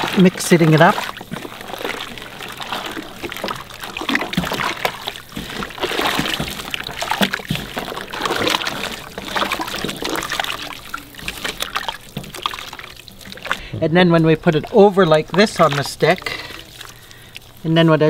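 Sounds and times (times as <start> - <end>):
liquid sloshing and splashing: 0.0 - 18.0.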